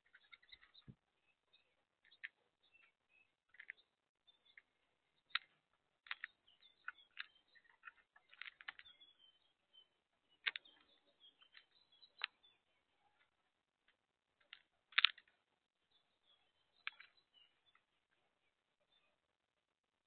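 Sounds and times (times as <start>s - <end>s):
doves pecking seed from plastic tub: 0.0s - 15.6s, 16.2s - 18.0s.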